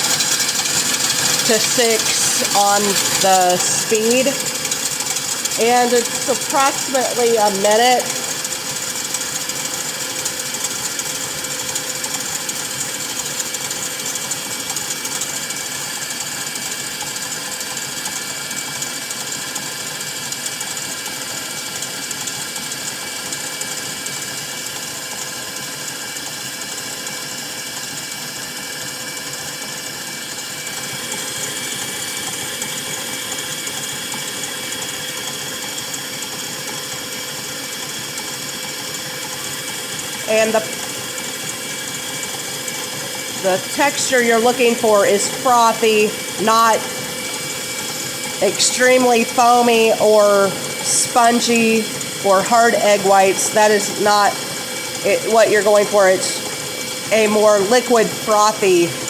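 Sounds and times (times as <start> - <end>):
stand mixer motor whir: 0.0 - 59.0.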